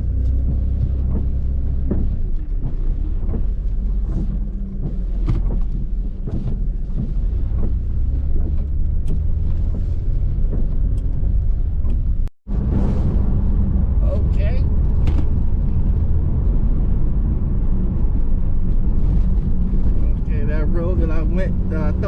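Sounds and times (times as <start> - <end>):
car engine running: 0.0 - 22.0
road and tyre noise: 0.0 - 22.0.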